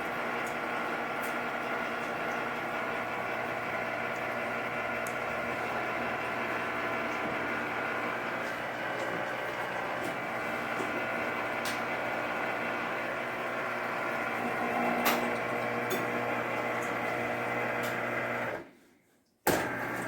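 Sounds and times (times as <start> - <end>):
juicer motor humming: 0.0 - 18.7, 19.5 - 20.0.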